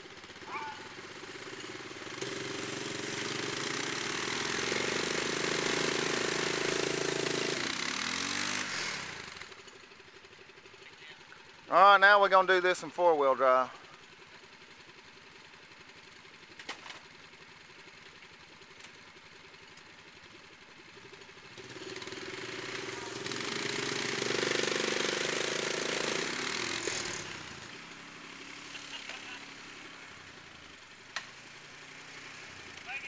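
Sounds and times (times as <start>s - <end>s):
atv and mini-truck engines revving: 0.0s - 33.0s.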